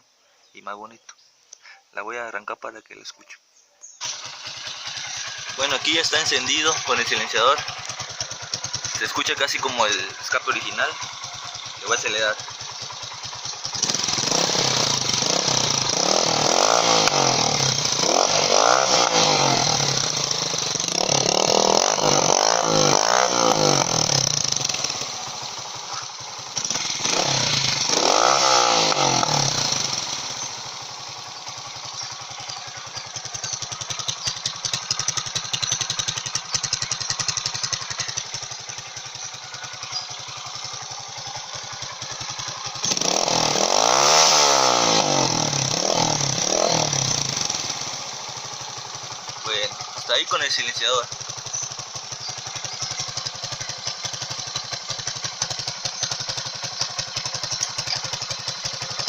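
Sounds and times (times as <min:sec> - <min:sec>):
motorcycle engine revving and idling: 0:03.8 - 0:59.0.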